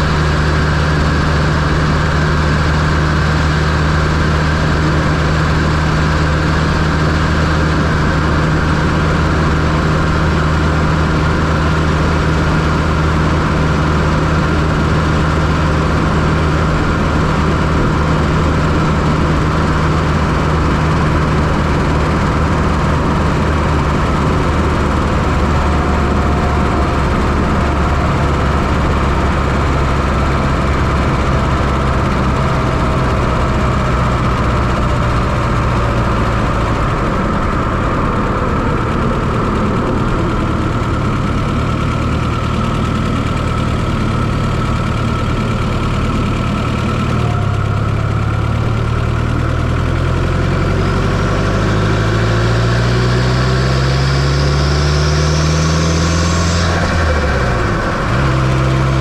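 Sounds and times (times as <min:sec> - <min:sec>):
car engine running steadily: 0:00.0 - 0:59.0.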